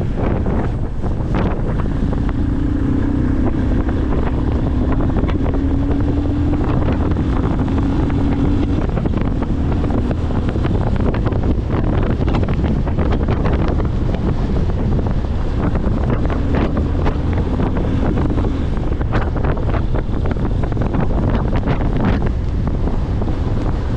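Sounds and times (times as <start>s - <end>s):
engine drone: 0.0s - 23.9s
wind buffeting microphone: 0.0s - 23.9s.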